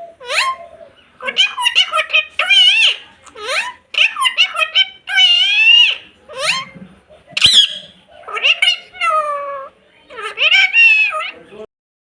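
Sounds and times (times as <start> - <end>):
parrot squawking and whistling: 0.2 - 6.8, 7.4 - 11.4.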